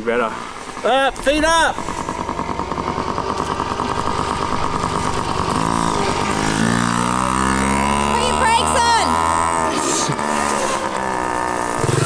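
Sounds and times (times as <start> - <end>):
small dirt bike engine: 0.0 - 12.0.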